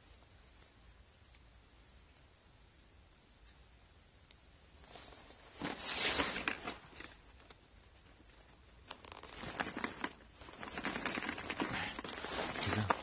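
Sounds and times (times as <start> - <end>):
rustling and light crackling: 0.0 - 2.5, 4.8 - 13.0.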